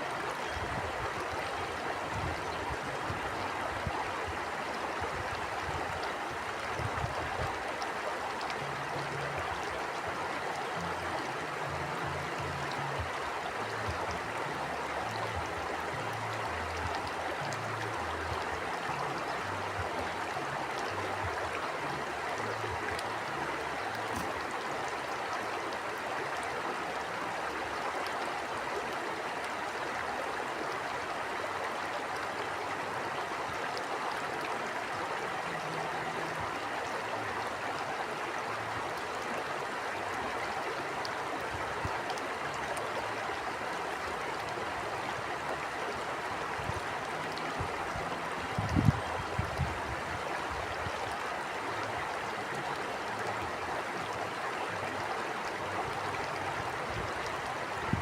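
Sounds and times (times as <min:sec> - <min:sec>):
small water splashes and gurgles: 0:00.0 - 0:58.0
stream flowing: 0:00.0 - 0:58.0.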